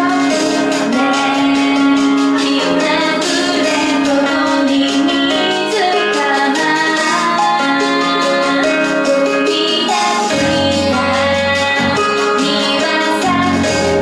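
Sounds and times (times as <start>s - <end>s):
instrumental accompaniment: 0.0s - 14.0s
woman singing: 0.0s - 14.0s.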